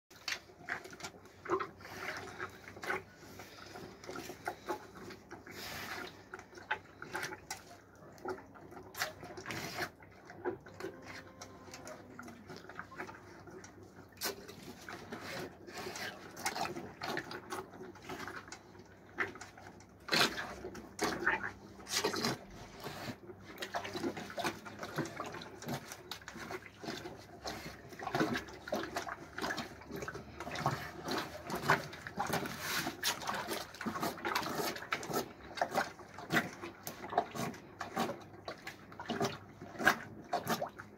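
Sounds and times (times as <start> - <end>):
cattle slurping from metal basin: 0.1 - 40.9.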